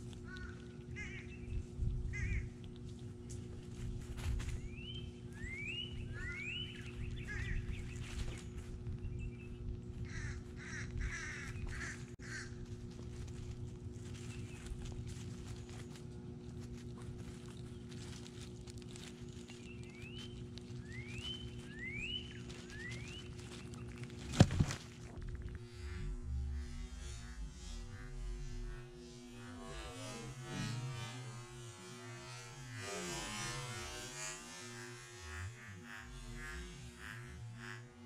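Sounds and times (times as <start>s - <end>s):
low wavering drone: 0.0s - 38.0s.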